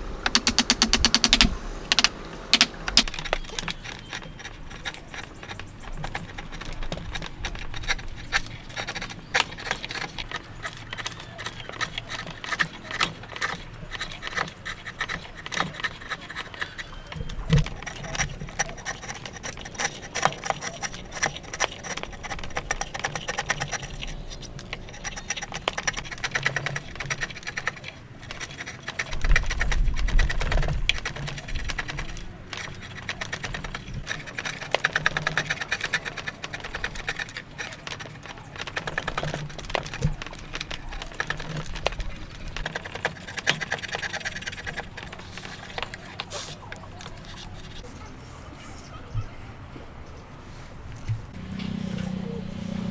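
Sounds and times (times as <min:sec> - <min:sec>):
chisel scraping wood: 0:00.3 - 0:47.9.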